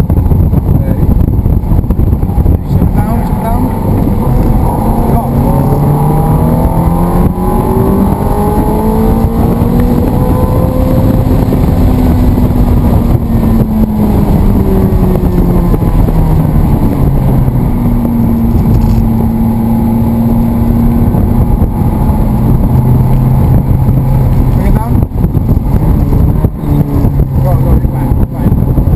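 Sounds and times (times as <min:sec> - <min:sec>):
road and wind noise: 0:00.0 - 0:28.9
sports car engine running hard: 0:00.0 - 0:28.9.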